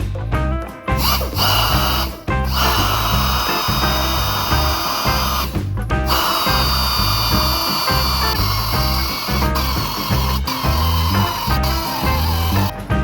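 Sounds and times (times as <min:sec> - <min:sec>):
background music: 0:00.0 - 0:13.0
power tool whining: 0:01.0 - 0:12.9.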